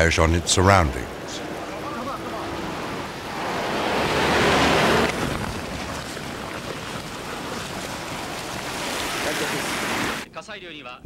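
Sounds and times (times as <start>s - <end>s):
car passing by: 0.0s - 10.2s
steady rushing noise: 0.0s - 10.2s.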